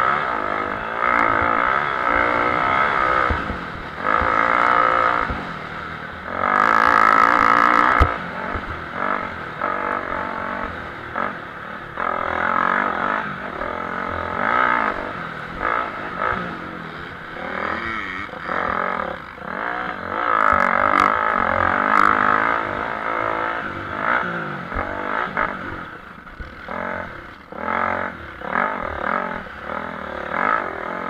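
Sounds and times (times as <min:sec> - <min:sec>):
motocross engines revving: 0:00.0 - 0:31.0.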